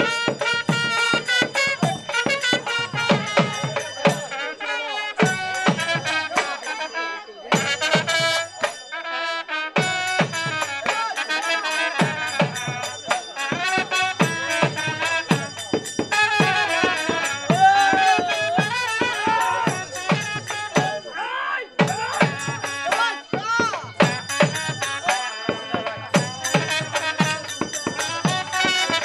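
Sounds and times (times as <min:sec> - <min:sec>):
drum beating quick rhythm: 0:00.0 - 0:21.2, 0:21.8 - 0:29.0
wind instrument melody: 0:00.0 - 0:29.0.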